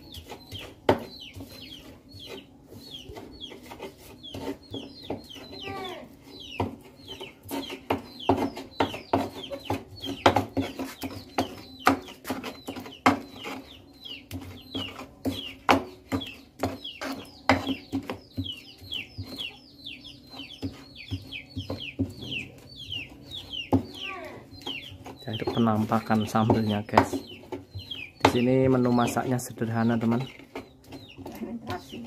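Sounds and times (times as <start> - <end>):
pestle pounding in stone mortar: 0.0 - 19.6, 20.2 - 32.0.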